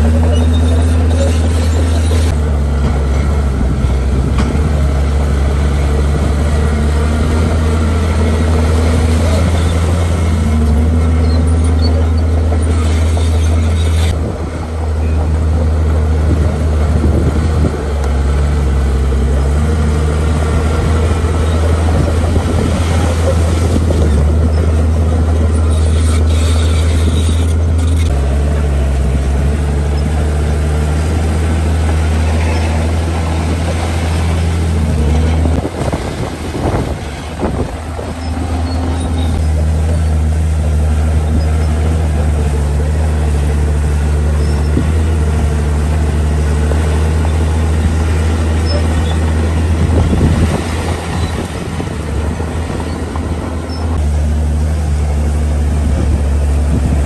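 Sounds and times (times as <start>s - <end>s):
diesel earthmoving machinery: 0.0s - 57.0s.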